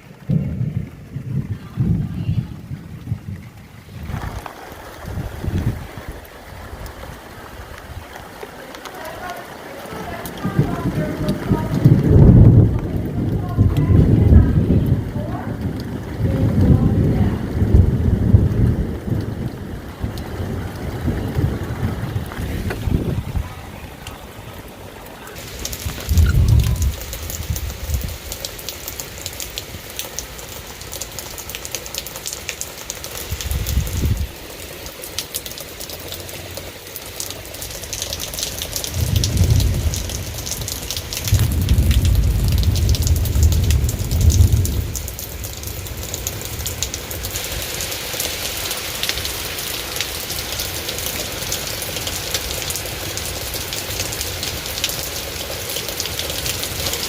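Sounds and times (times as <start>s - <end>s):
thunder rumbles: 0.0s - 8.3s, 9.1s - 32.4s, 33.1s - 34.8s, 37.4s - 57.0s
steady rain falling: 0.0s - 57.0s.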